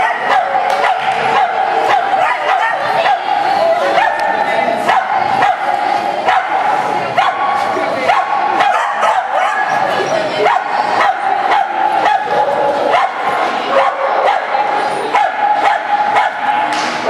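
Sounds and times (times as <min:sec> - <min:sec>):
dog barking: 0:00.0 - 0:16.7.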